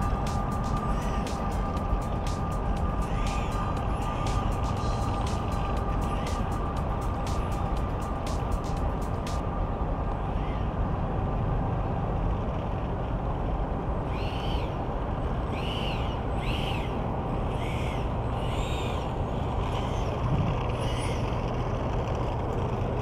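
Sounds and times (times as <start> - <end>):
electric ducted fan hissing: 0.0 - 23.0.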